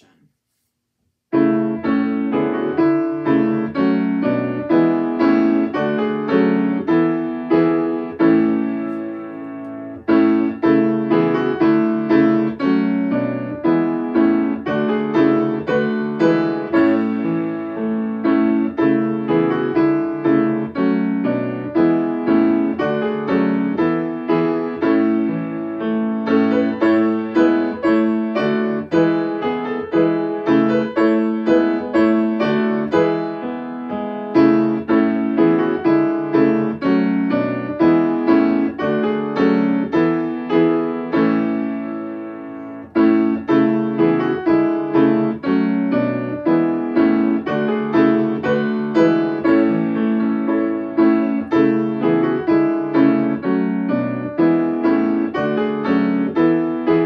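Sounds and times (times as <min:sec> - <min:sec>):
piano melody over chords: 0:01.3 - 0:57.0.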